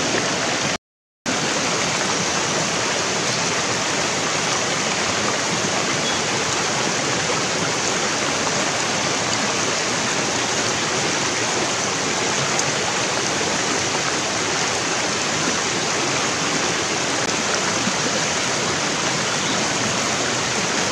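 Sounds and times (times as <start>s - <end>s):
stream rushing over rocks: 0.0s - 20.9s.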